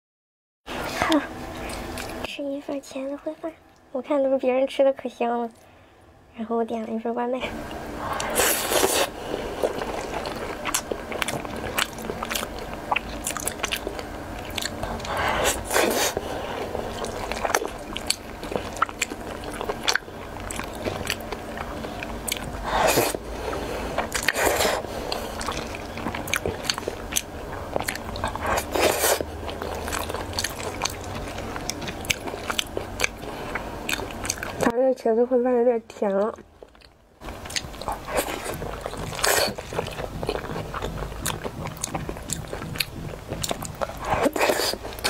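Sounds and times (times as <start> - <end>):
wet chewing: 7.5 - 34.7, 36.0 - 45.0.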